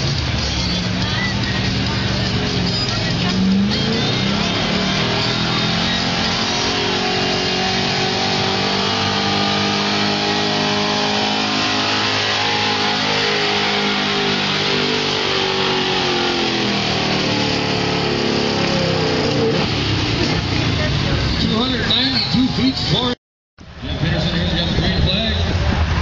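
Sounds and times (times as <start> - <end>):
truck engine at high revs: 0.0 - 23.2.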